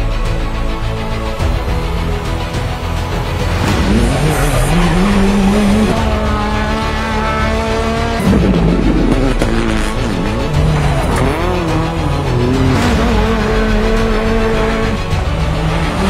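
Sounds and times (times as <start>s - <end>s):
car engine revving: 1.5s - 16.0s.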